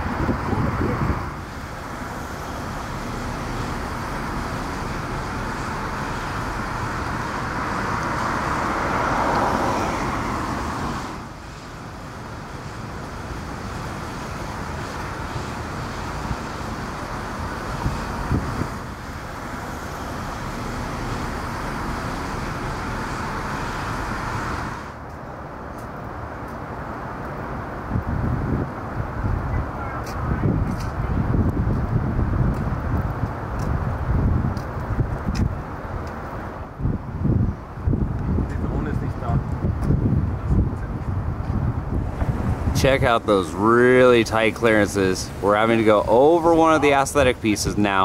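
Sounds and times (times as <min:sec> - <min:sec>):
distant road traffic: 0:00.0 - 0:48.0.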